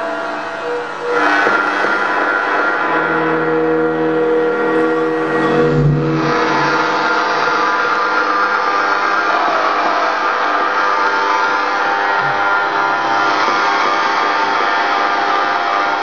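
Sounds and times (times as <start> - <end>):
deep hum: 0.0 - 16.0
electronic buzzing drone: 0.0 - 16.0.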